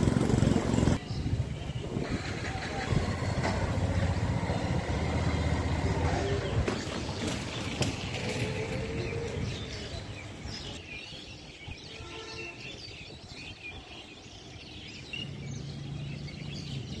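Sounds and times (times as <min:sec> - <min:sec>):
outdoor ambient noise: 0:00.0 - 0:17.0.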